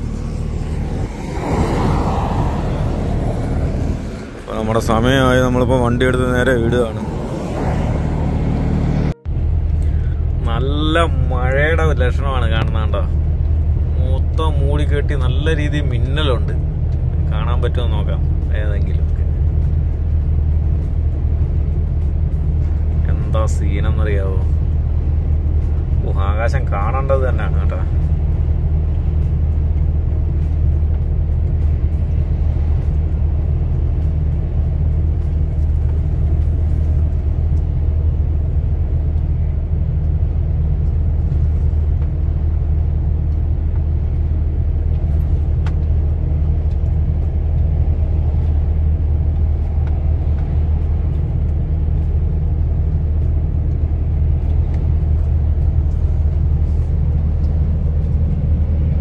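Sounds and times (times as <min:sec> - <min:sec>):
truck engine and road drone: 0:00.0 - 0:59.0.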